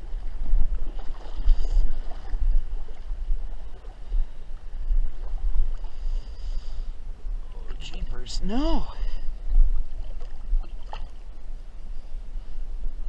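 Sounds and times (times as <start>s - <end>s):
water sloshing and splashing: 0.0s - 6.8s, 7.5s - 11.4s
deep uneven rumble: 0.0s - 13.0s.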